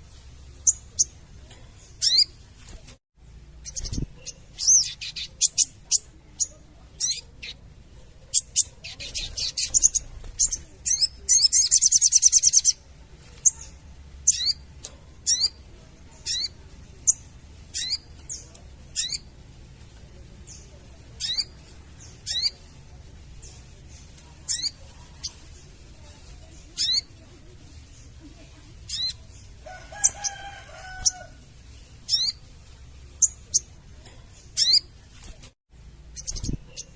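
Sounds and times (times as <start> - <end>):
jay rattling chatter: 3.7 - 35.1.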